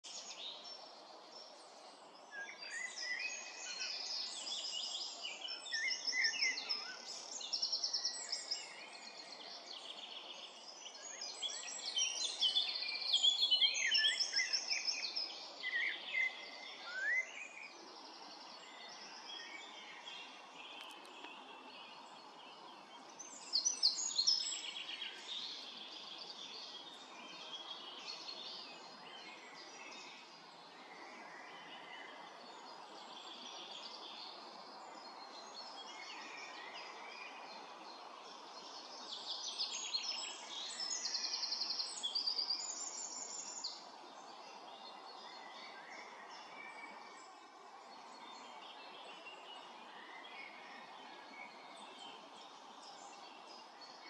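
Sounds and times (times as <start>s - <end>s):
faint outdoor hiss: 0.0s - 54.0s
songbirds trilling and chirping: 0.0s - 54.0s.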